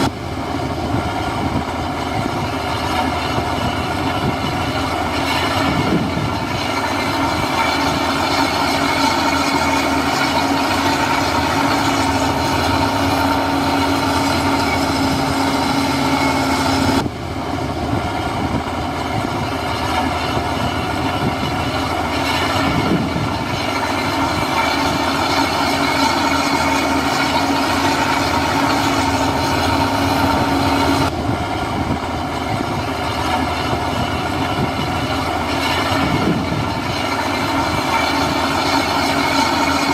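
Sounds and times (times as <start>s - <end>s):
constant whine: 0.0s - 39.9s
diesel engine of heavy machinery: 0.0s - 39.9s.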